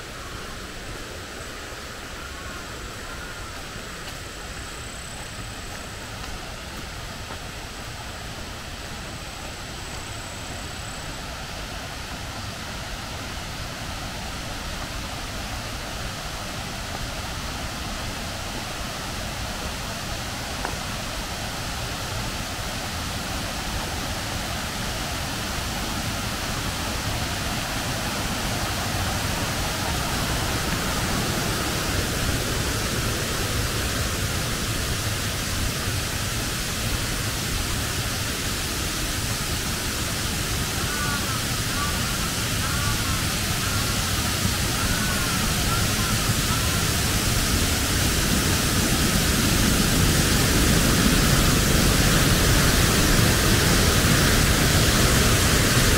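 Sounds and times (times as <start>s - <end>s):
river rushing: 0.0s - 55.9s.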